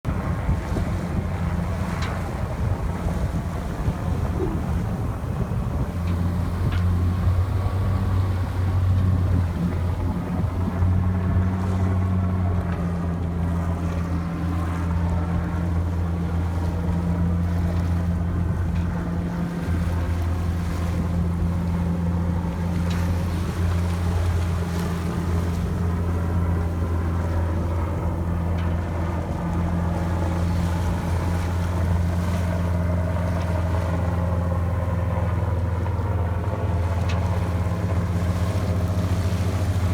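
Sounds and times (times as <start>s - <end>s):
boat engine droning: 0.0s - 39.9s
water noise: 0.0s - 39.9s.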